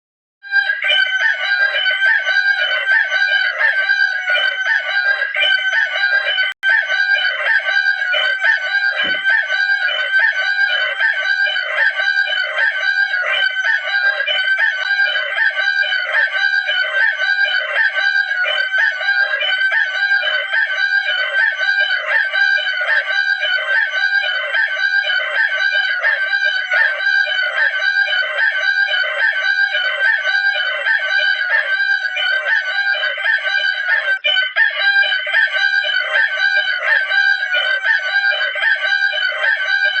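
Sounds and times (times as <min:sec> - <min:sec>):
rooster calling: 0:00.6 - 0:40.0.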